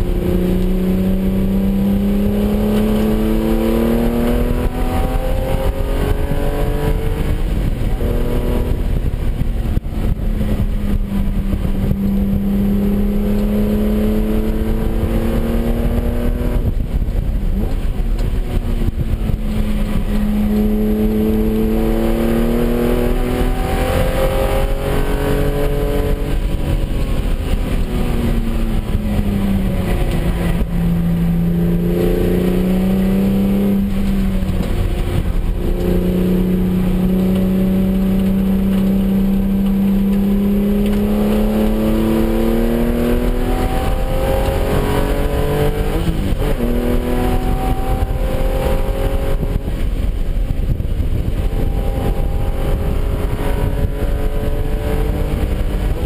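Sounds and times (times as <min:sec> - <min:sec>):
car engine revving hard: 0:00.0 - 0:56.0
road and wind noise: 0:00.0 - 0:56.0.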